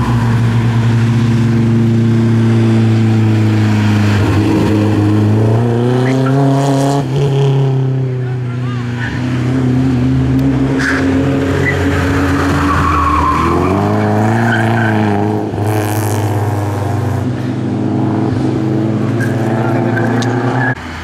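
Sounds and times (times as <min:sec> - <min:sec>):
rally car engines at high revs: 0:00.0 - 0:21.0.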